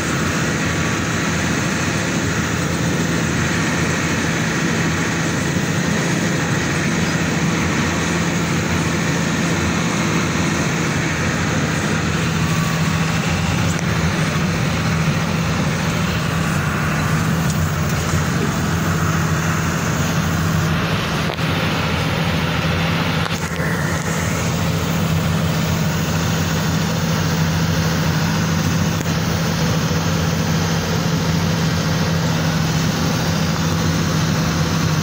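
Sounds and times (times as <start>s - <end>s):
vehicle engine and tyre noise: 0.0s - 35.0s.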